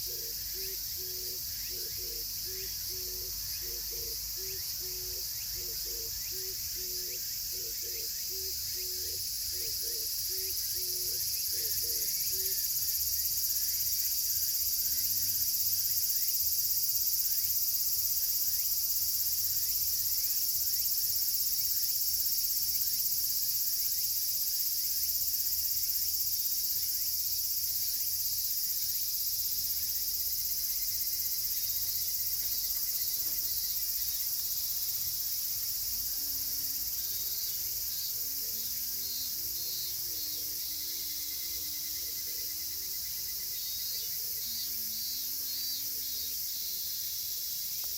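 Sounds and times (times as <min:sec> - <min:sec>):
cicadas shrilling: 0:00.0 - 0:47.9.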